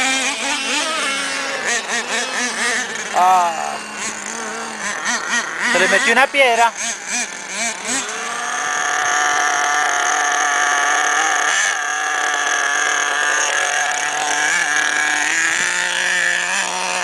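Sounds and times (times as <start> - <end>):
small engine high-pitched whine: 0.0 - 17.0.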